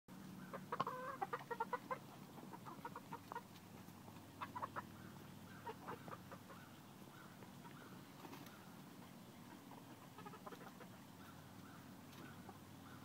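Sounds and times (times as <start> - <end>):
chickens clucking: 0.1 - 13.0.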